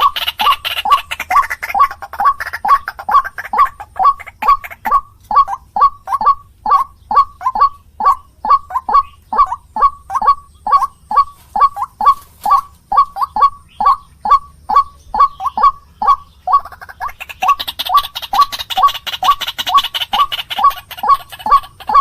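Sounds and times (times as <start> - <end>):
waterhen croaking calls: 0.0 - 22.0.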